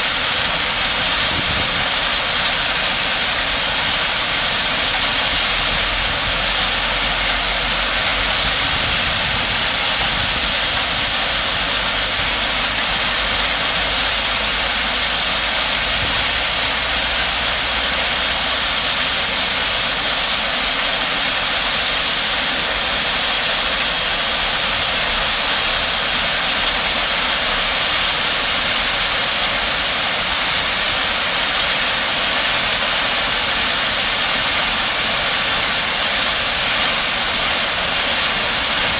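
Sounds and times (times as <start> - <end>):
diesel engine running low: 0.0 - 38.9
rock pouring down steel chute: 0.0 - 38.9.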